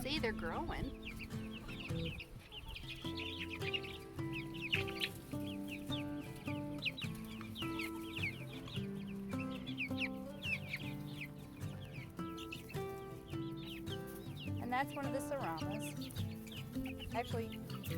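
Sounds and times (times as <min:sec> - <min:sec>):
background music: 0:00.0 - 0:17.9
chickens clucking: 0:00.0 - 0:17.9
chicks peeping: 0:00.0 - 0:17.9.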